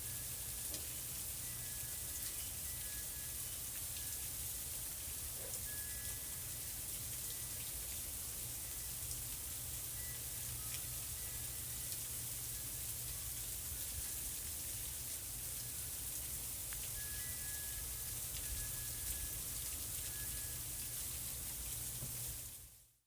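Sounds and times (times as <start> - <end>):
freezing rain hissing: 0.0 - 23.0.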